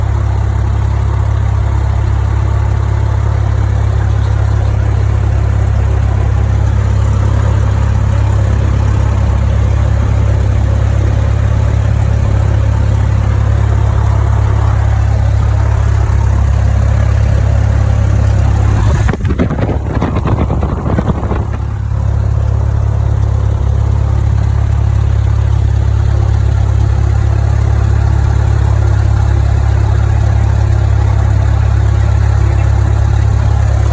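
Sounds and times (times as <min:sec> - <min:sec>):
aircraft engine and propeller running: 0:00.0 - 0:33.9.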